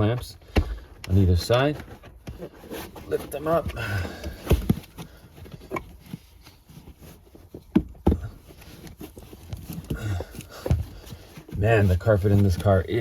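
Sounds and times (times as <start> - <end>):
carpet rustling: 0.0 - 13.0.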